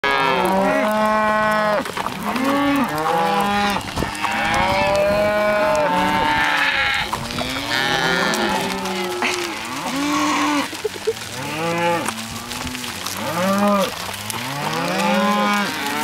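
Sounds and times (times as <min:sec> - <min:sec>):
cattle mooing: 0:00.0 - 0:16.0.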